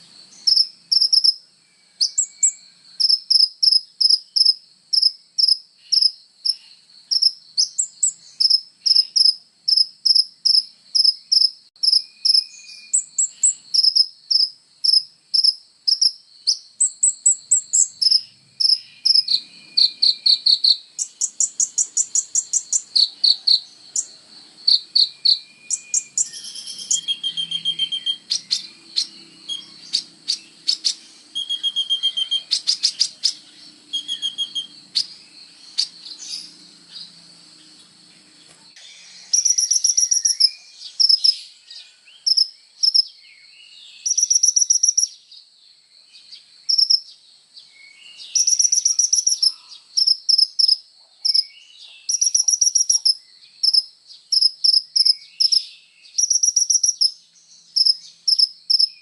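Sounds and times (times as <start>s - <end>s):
bird chirping trills: 0.0s - 59.0s.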